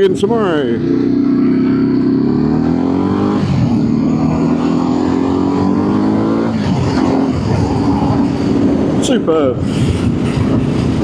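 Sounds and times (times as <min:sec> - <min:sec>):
motorcycle engine accelerating: 0:00.0 - 0:11.0
wind rushing: 0:00.0 - 0:11.0.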